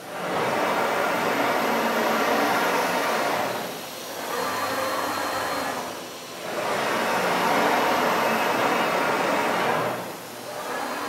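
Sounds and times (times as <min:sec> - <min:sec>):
cnc router running: 0:00.0 - 0:11.0.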